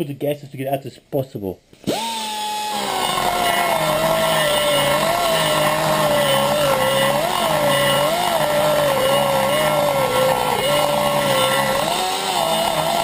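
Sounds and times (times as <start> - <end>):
die grinder whining on metal: 1.8 - 13.0.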